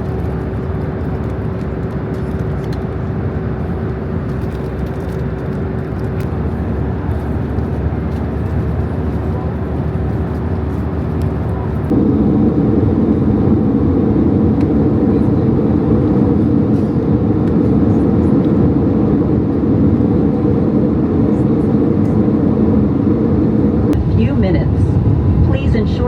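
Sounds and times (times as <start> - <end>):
aircraft cabin engine hum: 0.0 - 26.0.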